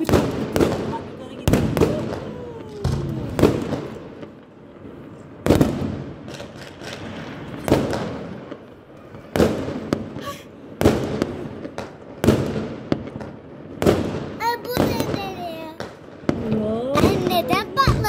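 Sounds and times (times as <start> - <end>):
small firework pops: 0.0 - 4.4, 5.4 - 18.0
fireworks bangs: 0.0 - 18.0.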